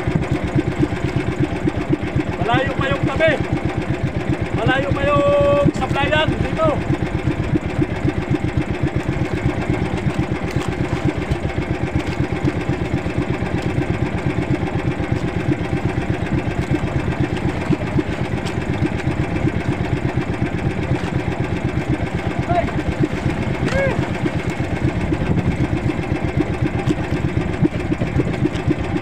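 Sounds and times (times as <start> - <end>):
small boat engine pulsing: 0.0 - 29.0.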